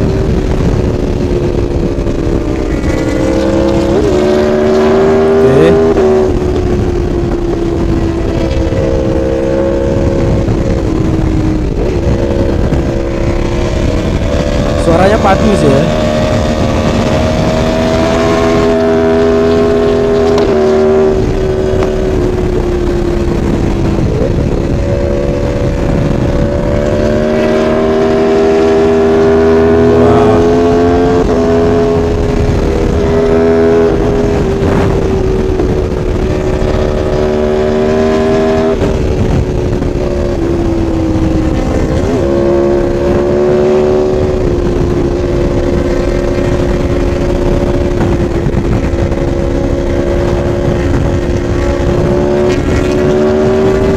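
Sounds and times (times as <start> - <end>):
motorcycle engine running hard: 0.0 - 53.9
wind rush: 0.0 - 53.9.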